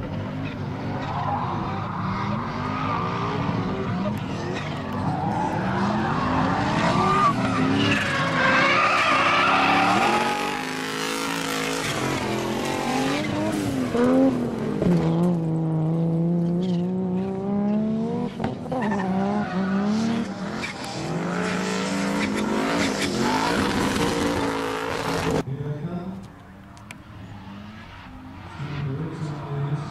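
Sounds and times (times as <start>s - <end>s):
car engines revving: 0.0s - 29.9s.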